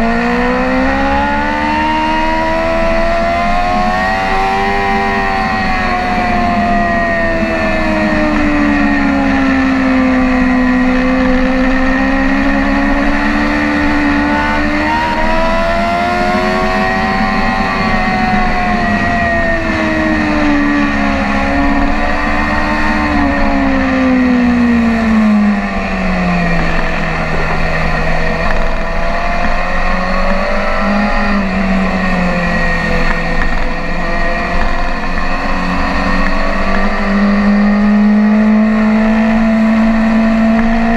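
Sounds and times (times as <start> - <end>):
motorcycle engine at speed: 0.0 - 40.9
wind noise: 0.0 - 40.9.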